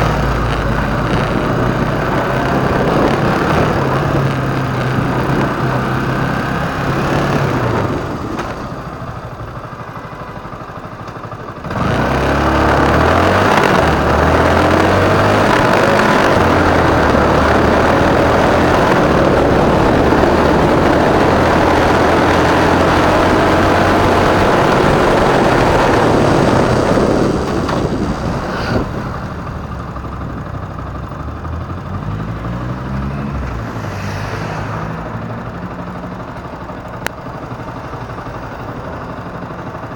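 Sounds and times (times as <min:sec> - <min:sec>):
motorcycle engine: 0:00.0 - 0:39.9
road noise: 0:00.0 - 0:39.9.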